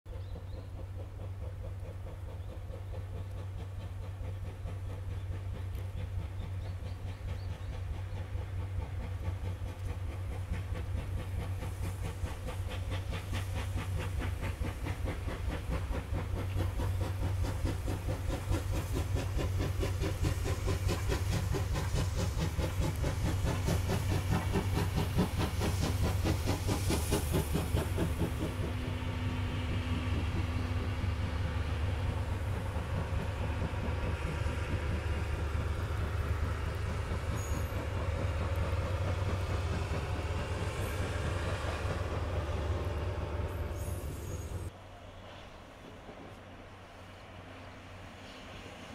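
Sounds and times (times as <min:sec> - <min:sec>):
wheels running on rails: 0:00.1 - 0:44.8
steam locomotive chuffing: 0:00.1 - 0:48.9.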